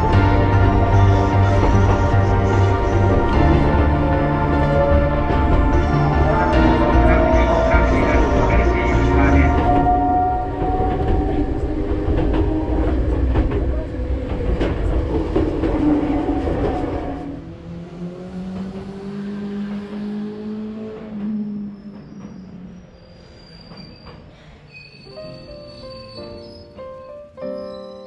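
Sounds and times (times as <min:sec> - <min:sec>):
rail clicks: 0:00.0 - 0:17.4, 0:20.7 - 0:27.8
electric train rumbling on rails: 0:00.0 - 0:28.0.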